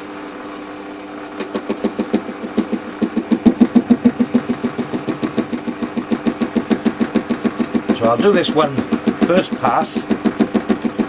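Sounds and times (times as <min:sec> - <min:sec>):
lathe humming: 0:01.1 - 0:11.0
cutting tool clacking: 0:01.3 - 0:11.0.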